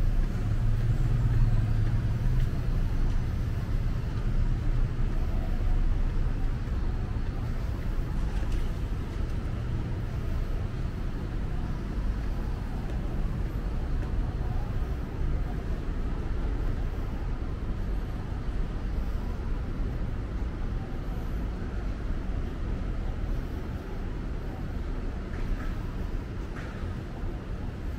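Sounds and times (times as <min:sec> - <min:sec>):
road traffic rumble: 0:00.0 - 0:27.9.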